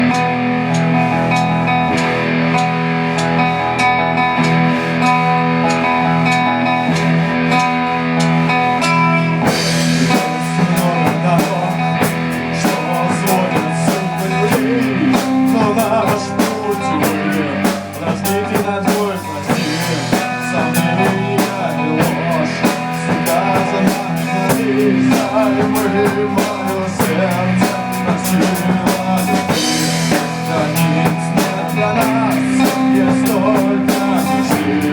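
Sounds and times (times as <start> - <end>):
drum kit: 0.0 - 34.9
rock music with guitar: 0.0 - 34.9.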